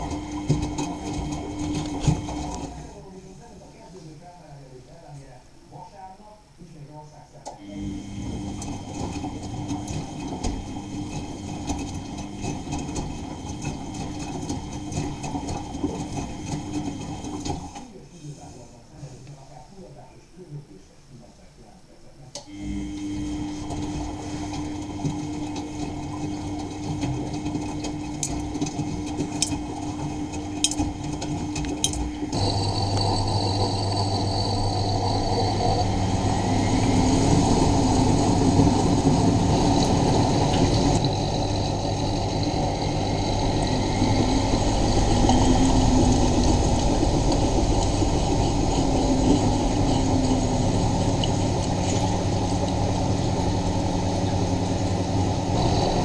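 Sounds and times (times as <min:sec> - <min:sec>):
washing machine water sounds: 0:00.0 - 0:03.2, 0:07.5 - 0:18.0, 0:22.4 - 0:56.0
low motor hum: 0:00.0 - 0:03.4, 0:07.6 - 0:18.0, 0:22.4 - 0:56.0.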